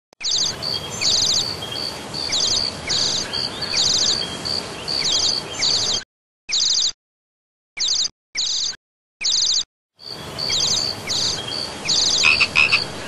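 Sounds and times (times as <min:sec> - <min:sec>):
birds and insects chirping: 0:00.2 - 0:06.9, 0:07.8 - 0:13.0.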